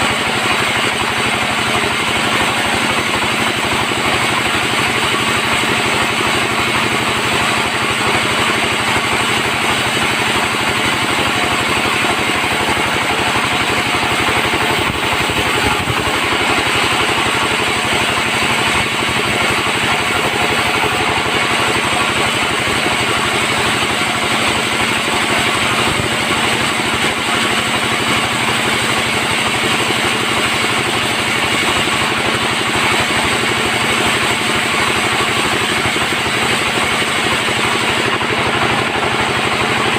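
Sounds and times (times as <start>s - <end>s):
bandsaw machine drone: 0.0s - 39.9s.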